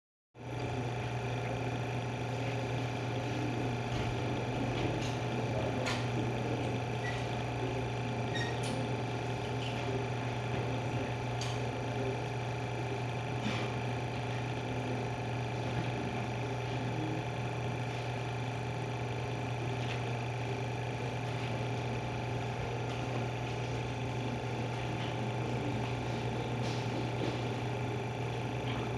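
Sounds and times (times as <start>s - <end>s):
pump humming: 0.4s - 28.9s.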